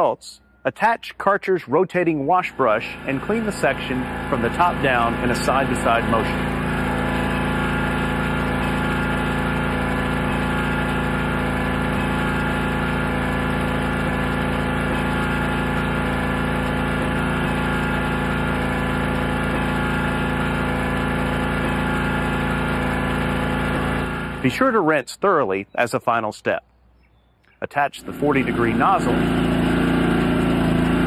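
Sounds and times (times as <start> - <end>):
pressure washer engine running: 1.8 - 24.9, 27.7 - 31.0.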